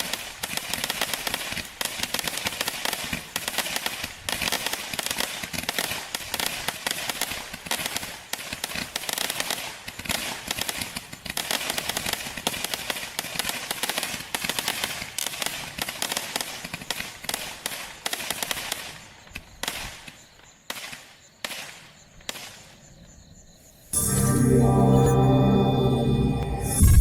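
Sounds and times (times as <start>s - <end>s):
firework bangs and crackle: 0.0s - 22.8s.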